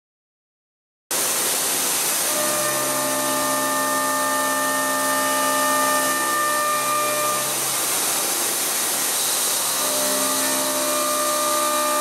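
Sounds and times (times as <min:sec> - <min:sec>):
milling machine high hiss: 0:01.2 - 0:12.0
cutter whine on metal: 0:02.2 - 0:12.0.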